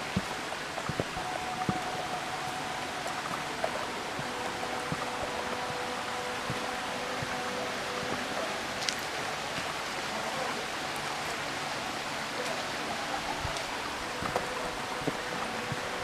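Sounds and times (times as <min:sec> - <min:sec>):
waterfall and stream rushing: 0:00.0 - 0:16.0.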